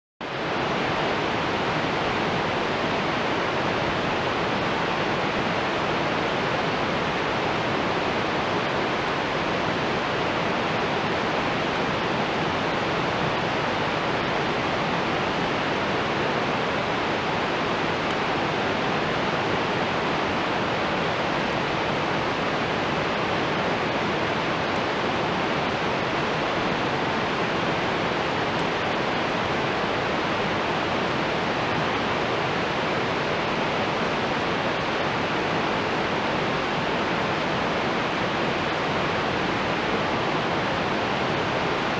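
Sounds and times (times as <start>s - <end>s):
river water rushing: 0.2s - 41.9s.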